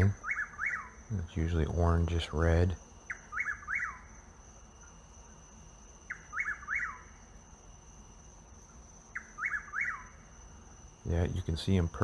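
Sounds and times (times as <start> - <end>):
nightjar singing: 0.0 - 12.0.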